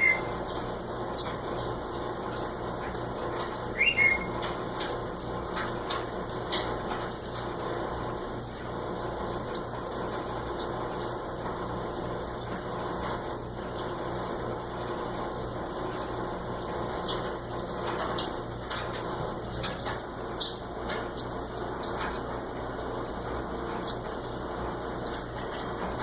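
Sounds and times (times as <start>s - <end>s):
mechanical room hum: 0.0s - 26.0s.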